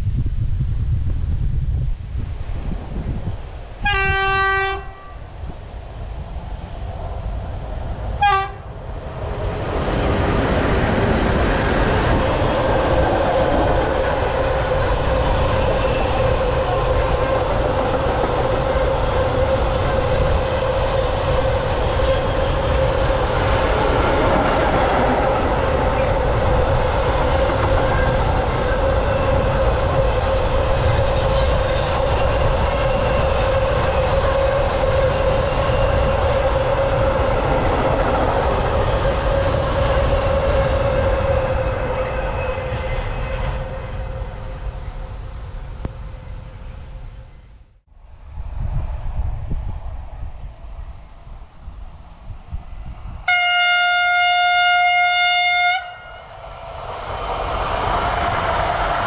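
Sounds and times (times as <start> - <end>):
train wheels on rails: 2.7 - 53.4, 55.8 - 59.0.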